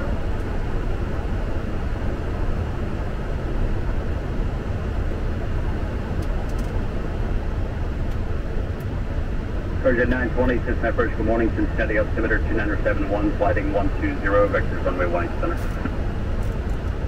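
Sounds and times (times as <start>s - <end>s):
cockpit airflow and engine noise: 0.0s - 17.0s.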